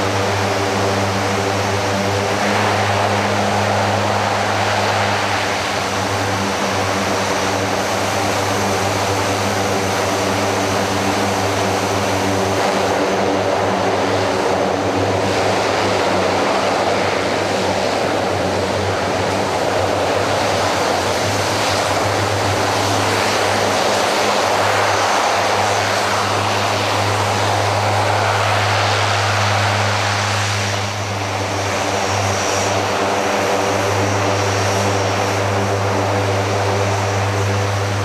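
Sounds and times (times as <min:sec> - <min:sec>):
turboprop engines and propellers: 0:00.0 - 0:38.0.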